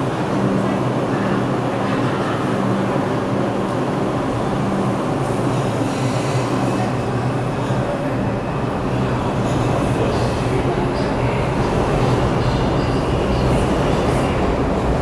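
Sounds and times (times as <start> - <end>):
subway train pulling out: 0.0 - 15.0
train equipment hum and rumble: 0.0 - 15.0.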